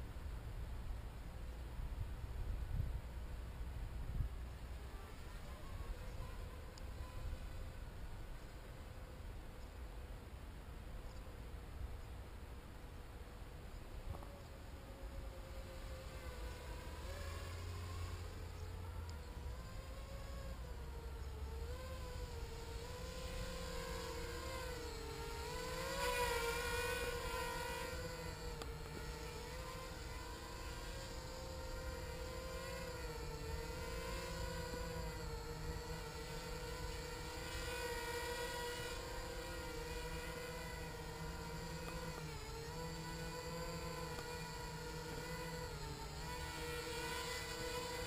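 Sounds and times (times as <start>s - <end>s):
drone motors whining: 4.4s - 9.0s, 14.1s - 48.0s.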